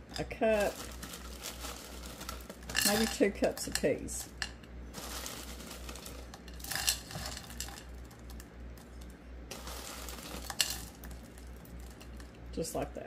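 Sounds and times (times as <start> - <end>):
frozen peas rattling into a saucepan: 0.1 - 12.4.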